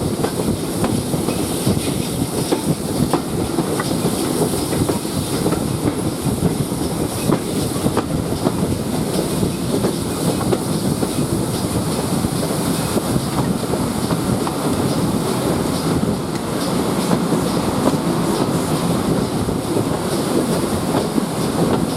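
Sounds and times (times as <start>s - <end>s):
railway carriage rumble: 0.0s - 21.9s
train wheels clicking over rail joints: 0.0s - 21.9s.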